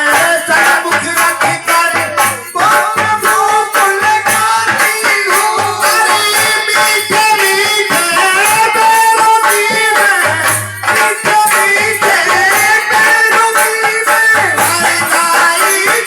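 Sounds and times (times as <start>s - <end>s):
shaker-like rattle percussion: 0.0s - 16.0s
held melody line: 0.5s - 15.4s.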